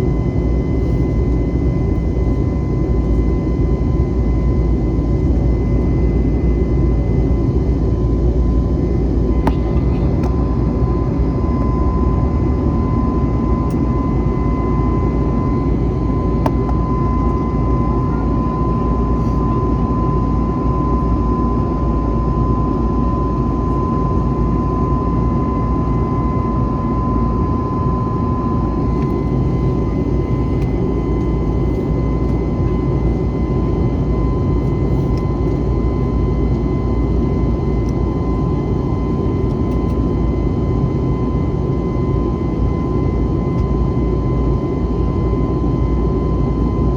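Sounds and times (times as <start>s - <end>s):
jet engine high whine: 0.0s - 46.9s
jet engine rush in cabin: 0.0s - 46.9s.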